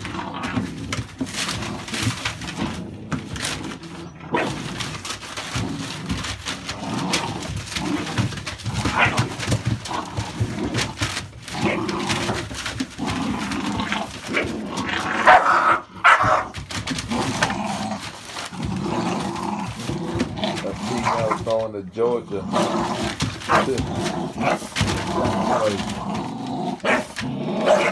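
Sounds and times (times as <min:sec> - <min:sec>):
newspaper crinkling: 0:00.0 - 0:27.9
puppies growling and yapping: 0:00.0 - 0:27.9.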